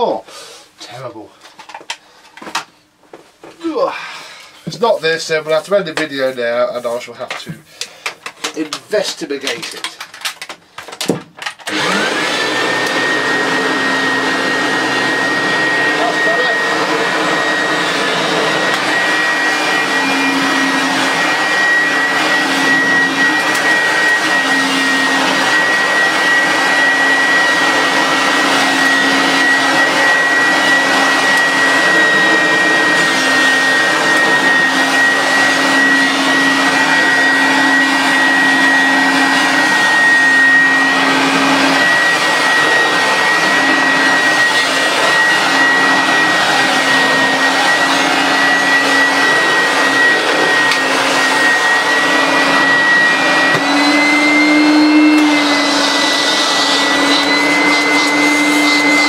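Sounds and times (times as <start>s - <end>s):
vacuum cleaner whining: 3.5s - 59.0s.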